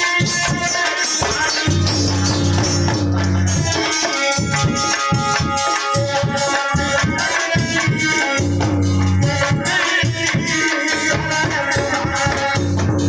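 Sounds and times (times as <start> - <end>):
barrel drum beat: 0.0 - 13.0
man singing: 0.0 - 13.0.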